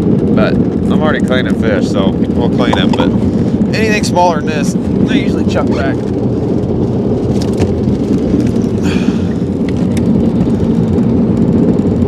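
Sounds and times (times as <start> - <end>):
jet boat engine rumble: 0.0 - 12.0.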